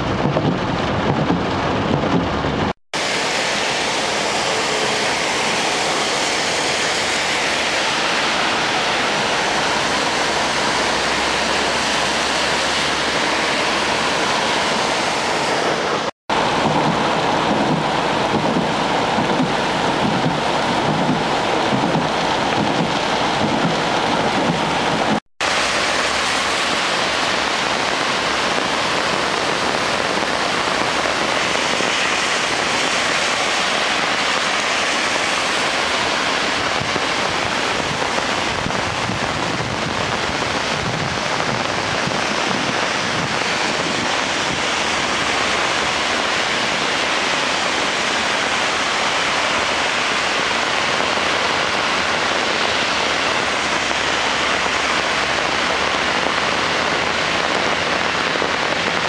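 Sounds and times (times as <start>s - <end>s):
heavy rain rushing: 0.0s - 59.0s.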